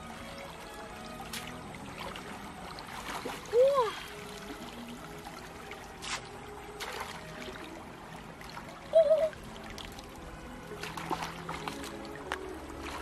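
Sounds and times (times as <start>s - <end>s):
shallow stream running: 0.0s - 13.0s.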